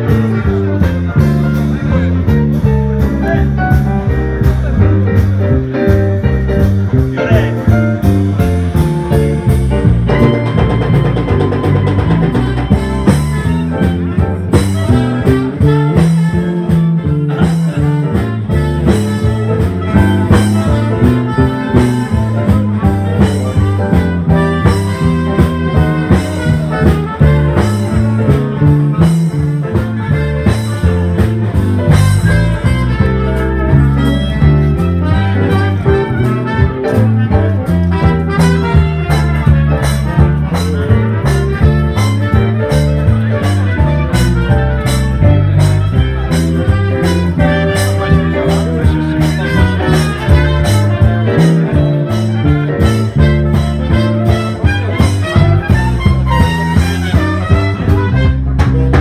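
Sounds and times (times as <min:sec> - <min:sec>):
drum kit: 0:00.0 - 0:59.0
electric guitar: 0:00.0 - 0:59.0
trumpet: 0:00.0 - 0:59.0
saxophones: 0:08.2 - 0:59.0.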